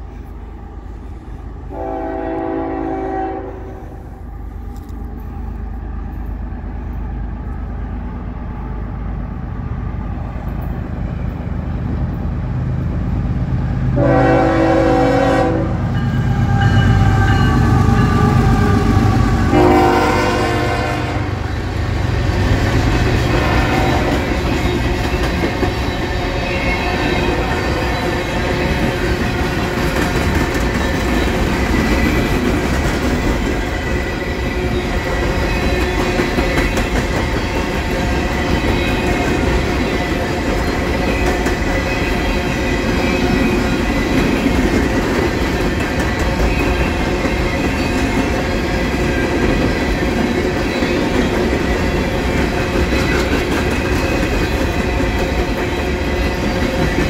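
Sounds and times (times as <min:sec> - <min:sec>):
wheels clacking on rails: 0:10.3 - 0:57.0.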